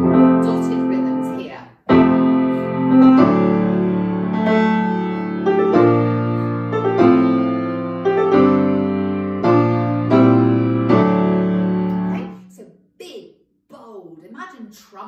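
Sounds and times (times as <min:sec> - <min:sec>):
piano chords: 0:00.0 - 0:12.5.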